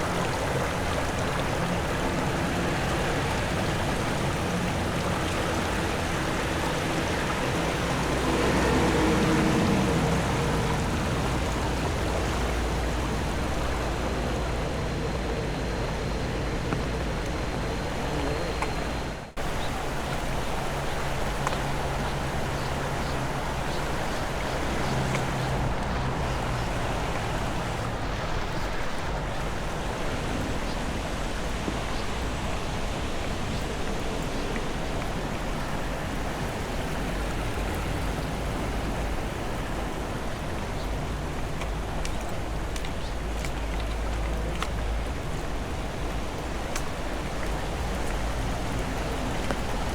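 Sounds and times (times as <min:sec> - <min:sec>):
rushing water: 0:00.0 - 0:49.9.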